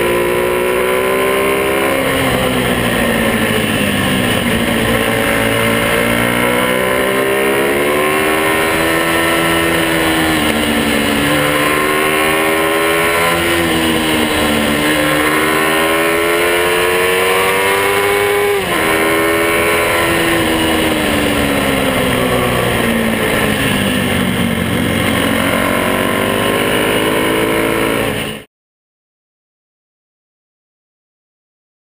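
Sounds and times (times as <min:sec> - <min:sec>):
mini motorcycle engine revving: 0:00.0 - 0:28.5.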